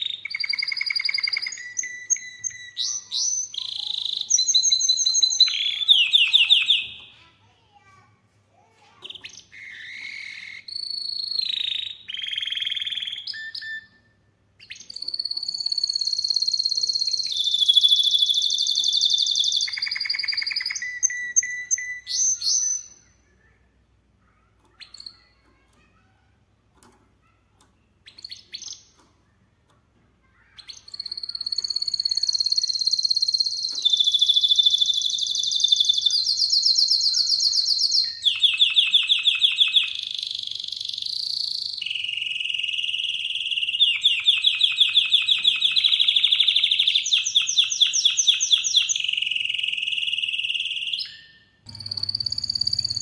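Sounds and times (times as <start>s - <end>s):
canary singing trills: 0.0s - 7.3s, 9.0s - 23.4s, 30.3s - 53.0s.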